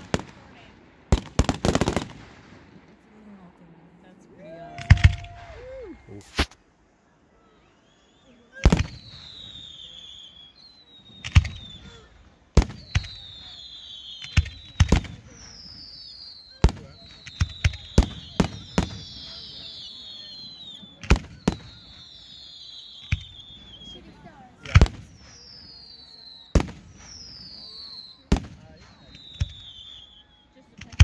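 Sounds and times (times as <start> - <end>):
fireworks bangs: 0.0 - 3.5, 4.4 - 6.8, 7.4 - 31.0
fireworks whistles falling in pitch: 4.4 - 6.6, 7.3 - 31.0.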